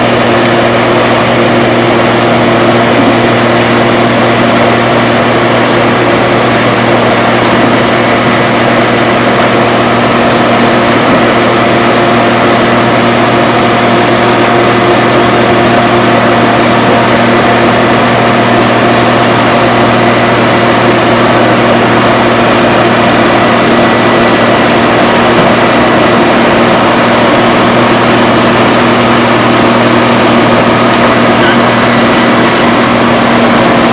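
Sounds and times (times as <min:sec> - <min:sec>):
heavy machinery engine humming: 0:00.0 - 0:33.9.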